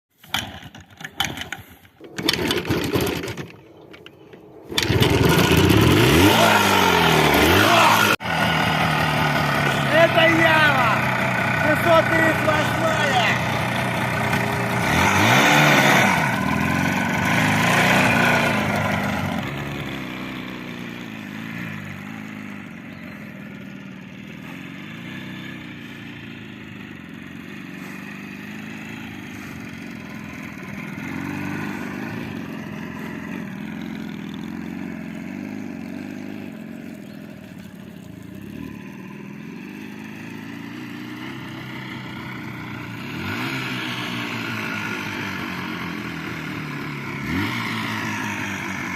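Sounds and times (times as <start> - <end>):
two-stroke motorcycle engine revving: 0.3 - 48.9.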